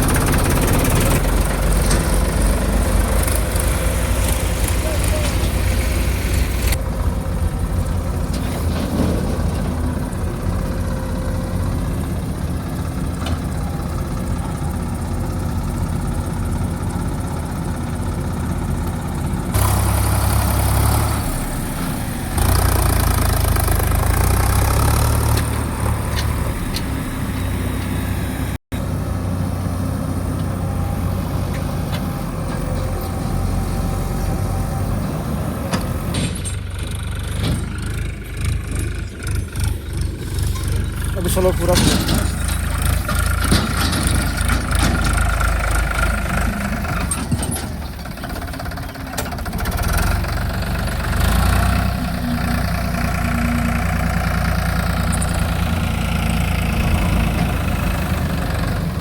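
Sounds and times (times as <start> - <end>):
diesel engine running and revving: 0.0 - 59.0.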